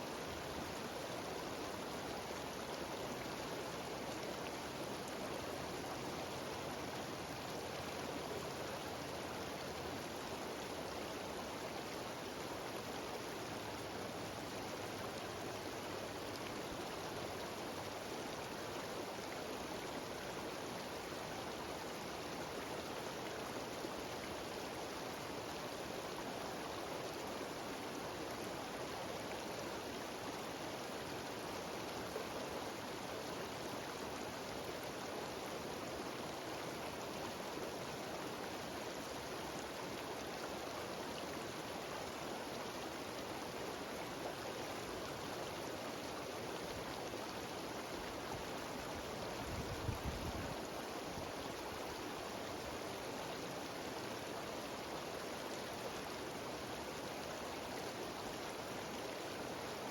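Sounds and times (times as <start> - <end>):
stream cascading over small waterfalls: 0.0 - 59.9.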